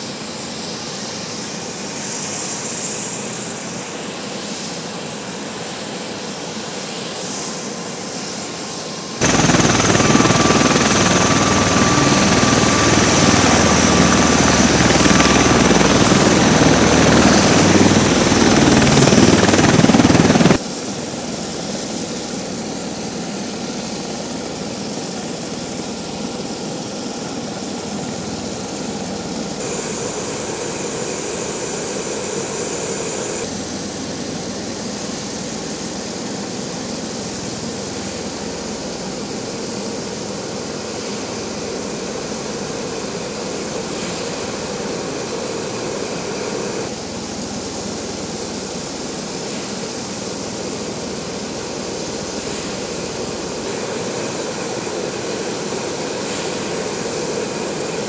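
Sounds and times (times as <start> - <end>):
tilt-rotor aircraft engines and rotors: 0.0 - 58.0.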